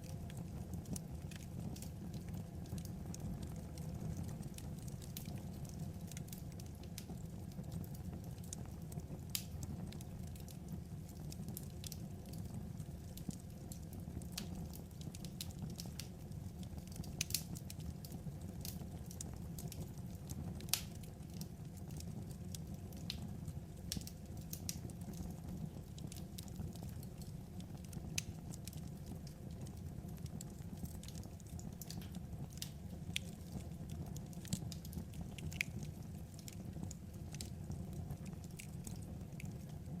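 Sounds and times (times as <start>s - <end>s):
low rumble of burning logs: 0.0s - 40.0s
wood fire crackling and popping: 0.0s - 40.0s.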